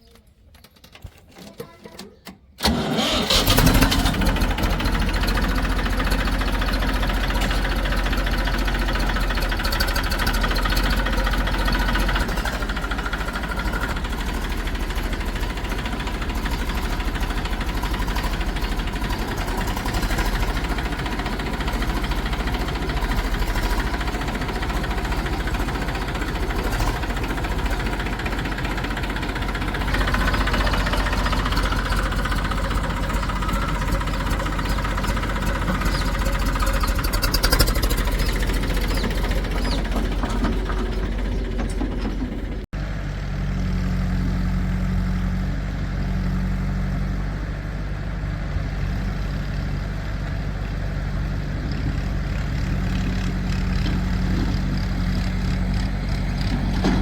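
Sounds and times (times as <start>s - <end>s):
diesel engines running: 2.6s - 57.0s.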